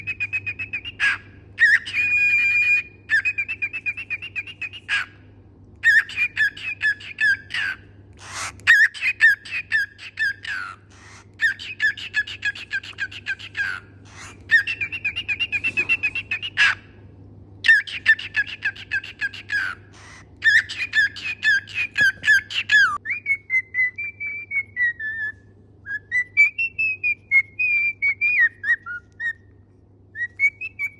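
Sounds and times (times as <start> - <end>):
parrot chirping and whistling: 0.0 - 5.2, 5.8 - 17.0, 17.6 - 29.5, 30.1 - 30.9.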